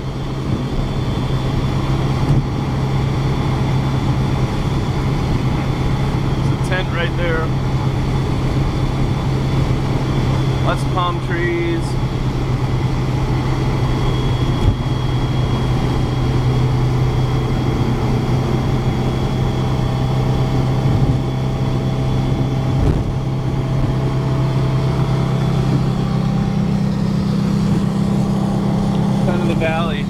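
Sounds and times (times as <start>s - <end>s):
car engine running steadily: 0.0s - 30.0s.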